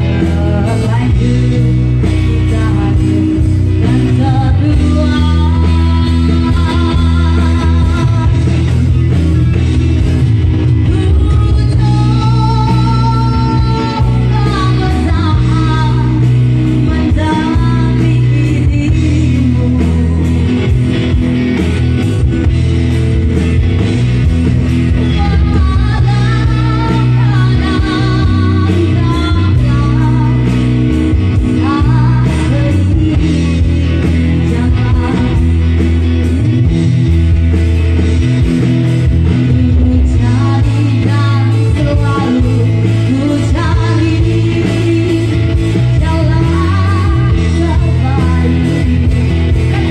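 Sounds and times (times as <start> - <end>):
woman singing: 0.0 - 9.1, 10.7 - 20.8, 24.9 - 35.8, 39.2 - 49.9
pop-rock band playing: 0.0 - 49.9.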